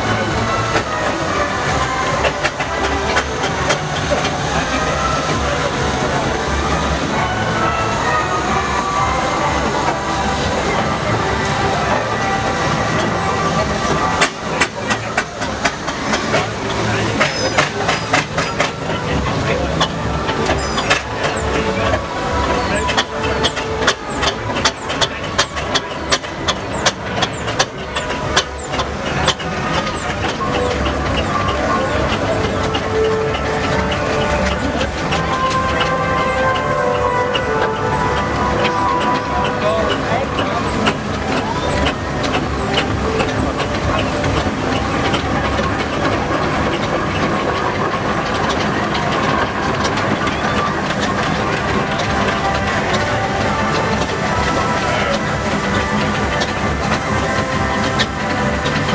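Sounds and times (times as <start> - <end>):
steam engine low rumble: 0.0 - 58.9.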